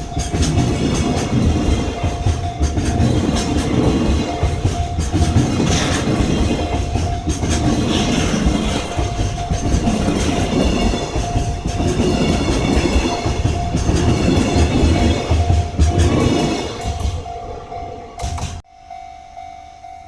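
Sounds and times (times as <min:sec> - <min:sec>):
train wheels clattering over rail joints: 0:00.0 - 0:17.4.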